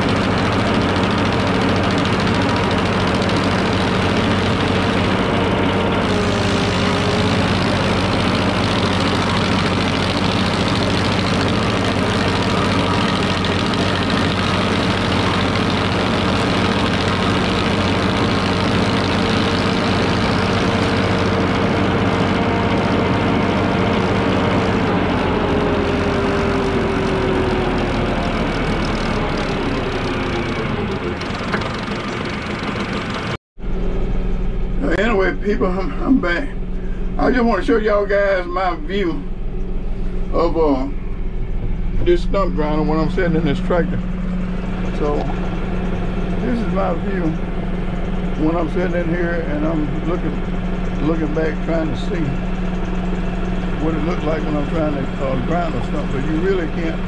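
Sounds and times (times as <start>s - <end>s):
stump grinder grinding: 0.0s - 33.4s, 41.6s - 57.0s
tractor engine under load: 0.0s - 57.0s.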